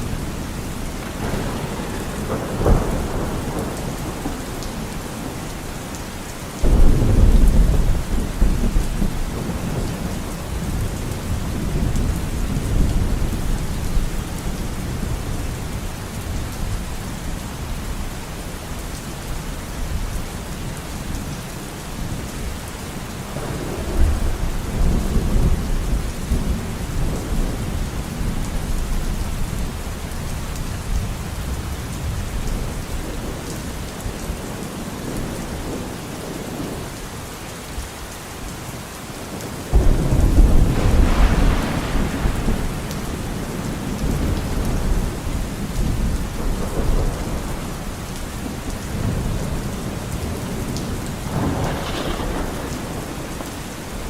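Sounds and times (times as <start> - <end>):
rolling thunder: 0.0 - 17.4, 23.2 - 36.9, 39.7 - 54.0
heavy rain: 0.0 - 54.0.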